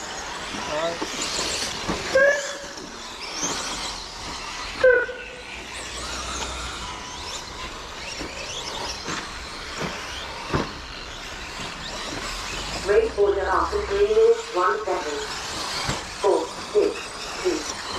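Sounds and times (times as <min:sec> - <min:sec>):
rc truck motors whining: 0:00.0 - 0:17.9.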